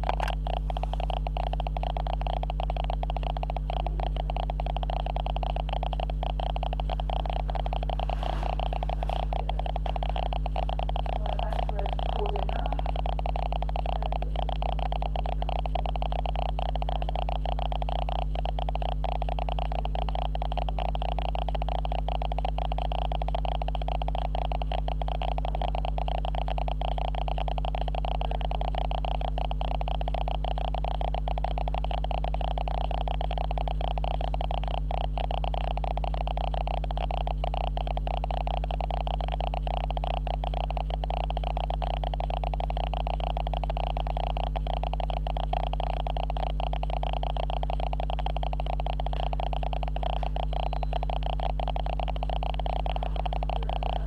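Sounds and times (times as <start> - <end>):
electrical hum and buzz: 0.0 - 54.0
fast crackle: 0.0 - 54.0.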